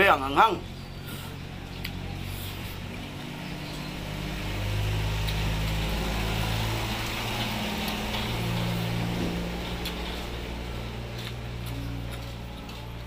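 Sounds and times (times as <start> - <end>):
engine running with low hum: 0.0 - 13.0.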